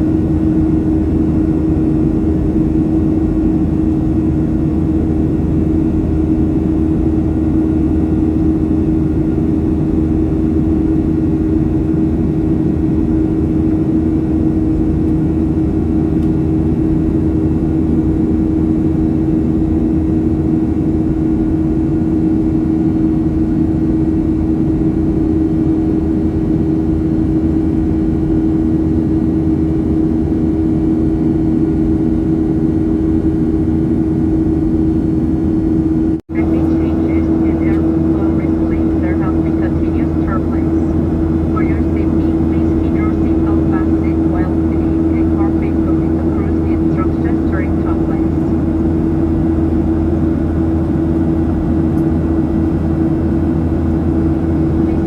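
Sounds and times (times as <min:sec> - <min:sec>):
airplane cabin drone: 0:00.0 - 0:55.0
constant hum: 0:00.0 - 0:55.0.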